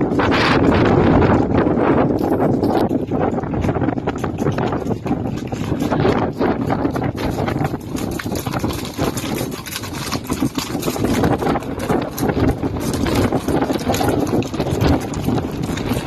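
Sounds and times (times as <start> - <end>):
horses galloping: 0.0 - 16.0.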